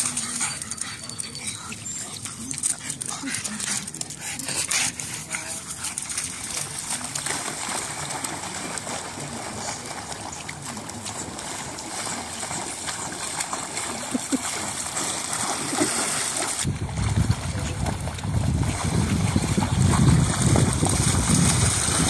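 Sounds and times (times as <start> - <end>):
dogs splashing through water: 0.0 - 22.0.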